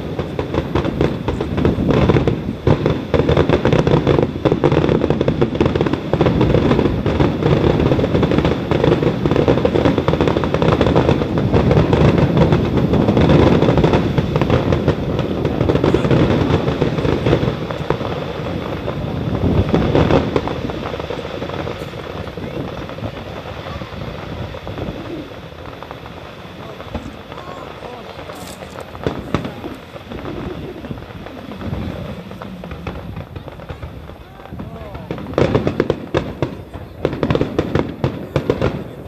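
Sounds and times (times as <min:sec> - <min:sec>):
fireworks booming and crackling: 0:00.0 - 0:39.0.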